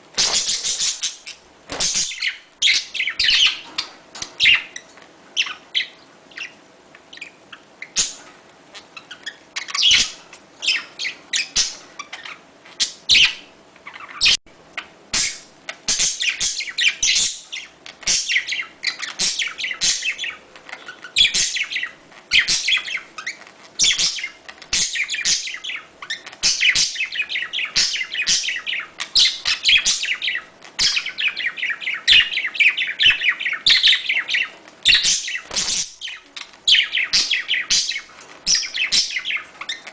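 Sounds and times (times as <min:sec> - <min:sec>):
budgerigars chirping: 0:00.2 - 0:39.9.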